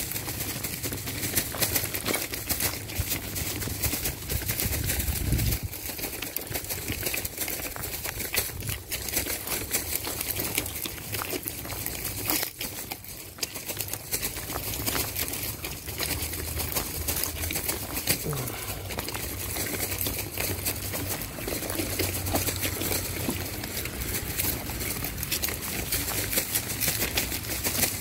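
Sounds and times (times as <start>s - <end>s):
footsteps crunching on gravel: 0.0s - 28.0s.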